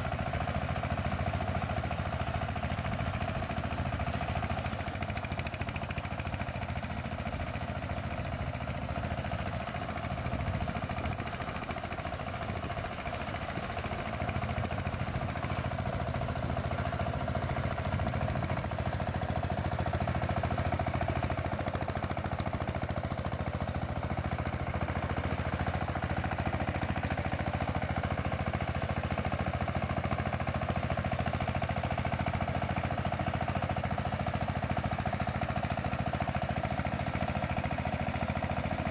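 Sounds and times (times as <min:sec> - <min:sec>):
tiller engine running: 0:00.0 - 0:38.9.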